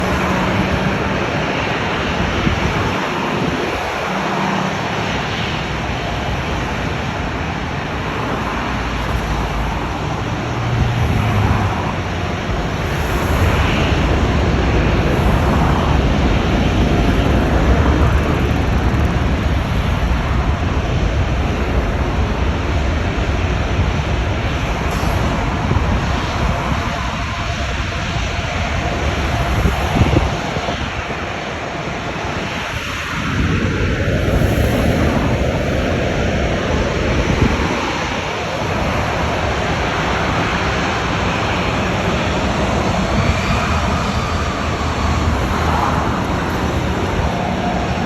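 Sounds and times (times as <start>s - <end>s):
jet airliner engines rushing: 0.0s - 48.0s.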